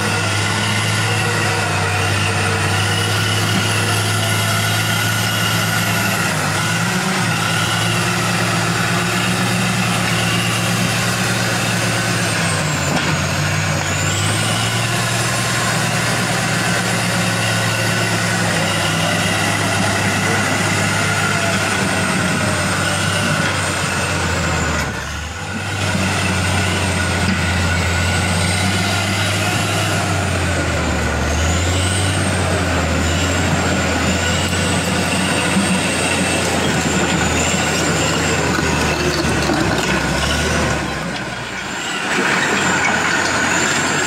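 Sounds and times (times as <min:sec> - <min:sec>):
bulldozer diesel engine under load: 0:00.0 - 0:44.0.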